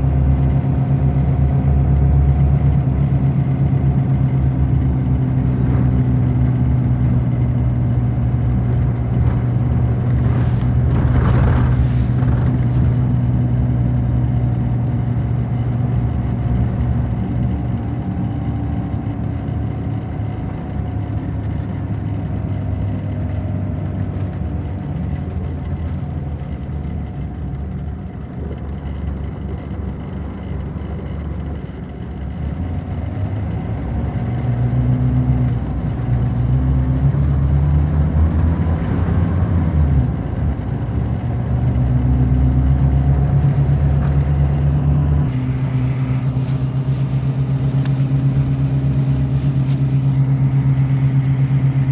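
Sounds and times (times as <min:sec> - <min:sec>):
bus diesel engine drone: 0:00.0 - 0:51.9.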